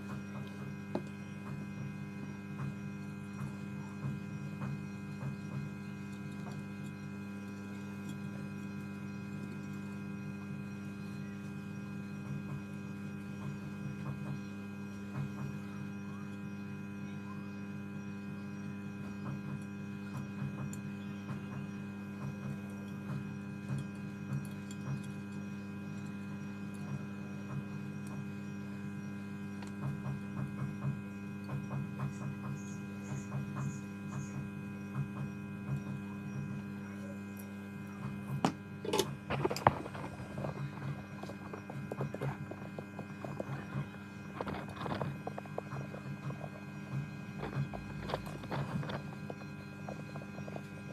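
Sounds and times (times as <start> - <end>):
hot air station humming: 0.0 - 50.9.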